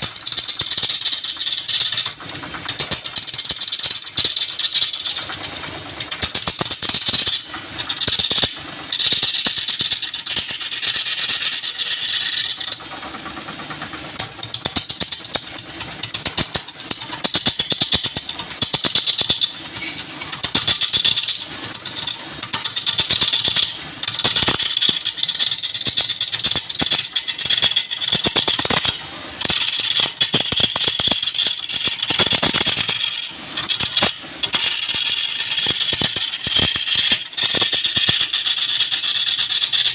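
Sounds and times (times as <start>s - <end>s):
wood lathe tool cutting wood: 0.0s - 39.9s.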